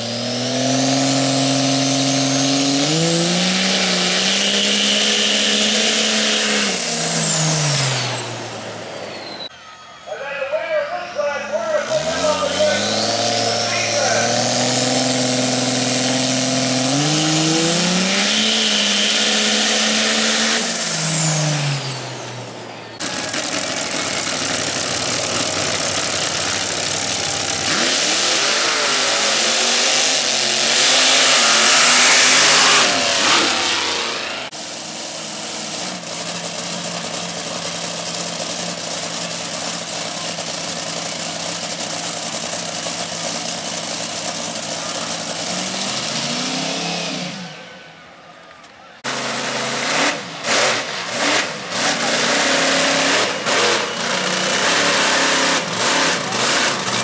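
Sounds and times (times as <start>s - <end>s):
truck engine revving: 0.0s - 9.5s, 10.9s - 57.0s.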